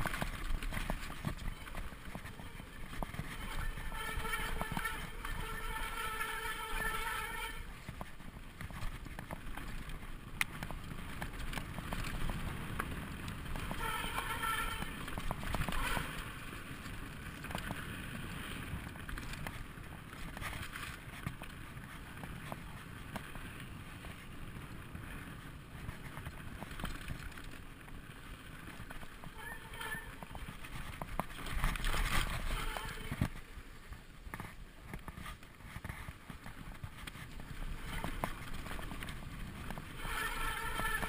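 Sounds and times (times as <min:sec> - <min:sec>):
bike rattling and clicking: 0:00.0 - 0:41.0
bike tyres rolling over dirt: 0:00.0 - 0:41.0.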